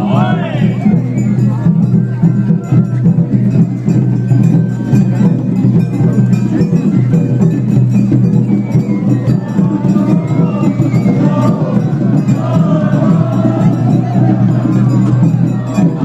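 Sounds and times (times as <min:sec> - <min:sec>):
festival drums and percussion: 0:00.0 - 0:16.0.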